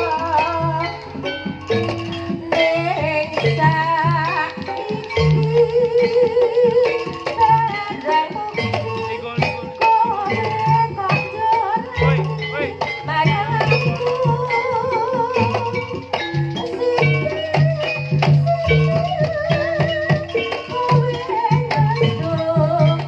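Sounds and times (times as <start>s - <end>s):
drums beating low pattern: 0.0s - 23.0s
rattling percussion: 0.0s - 23.0s
wavering melody: 0.0s - 23.0s.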